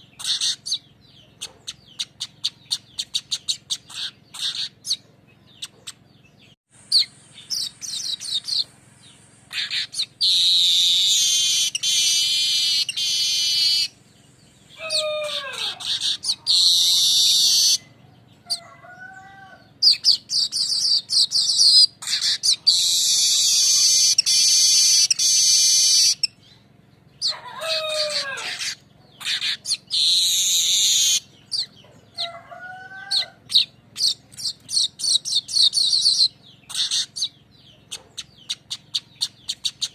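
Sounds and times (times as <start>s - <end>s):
bird buzzy trills: 0.0s - 39.9s.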